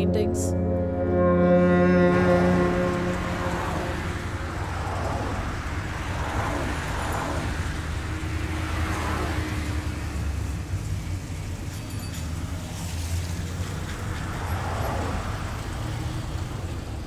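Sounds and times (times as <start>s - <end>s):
car engine and road rumble: 0.0s - 17.0s
passing vehicles: 0.0s - 17.0s.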